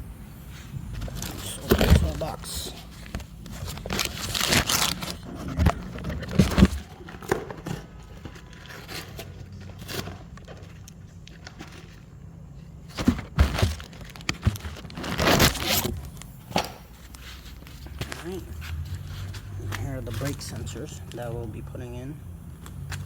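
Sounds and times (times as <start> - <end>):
packaging rustling: 0.4 - 21.6.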